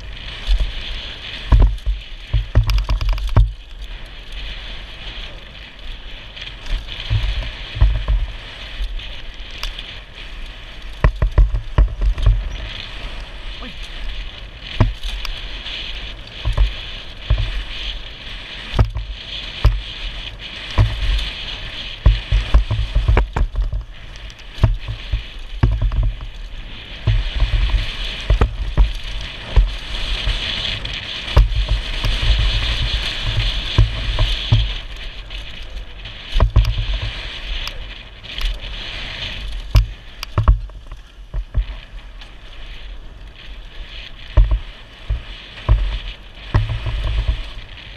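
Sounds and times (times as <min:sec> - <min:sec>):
bike thumping over bumps: 0:00.0 - 0:04.1, 0:06.6 - 0:38.6, 0:39.3 - 0:42.4, 0:44.1 - 0:47.9
bike tyres rolling on dirt: 0:00.0 - 0:47.9
wind rushing over microphone: 0:00.0 - 0:47.9.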